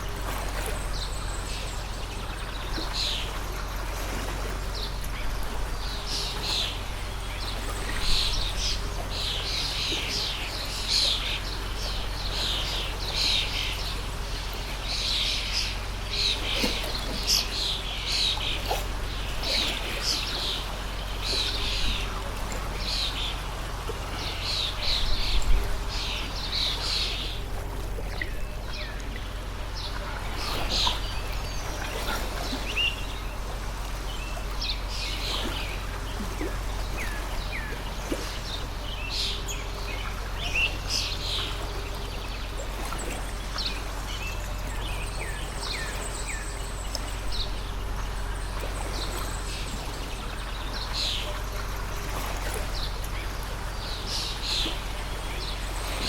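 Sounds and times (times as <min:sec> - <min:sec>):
small birds chirping: 0:00.0 - 0:56.0
stream flowing: 0:00.0 - 0:56.0.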